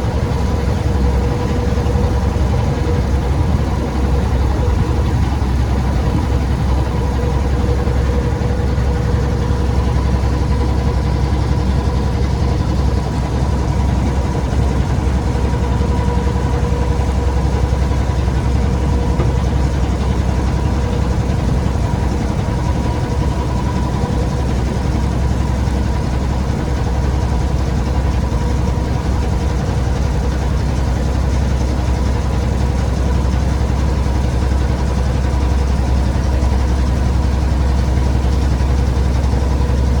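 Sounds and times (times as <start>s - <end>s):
engine running with low rumble: 0.0s - 40.0s.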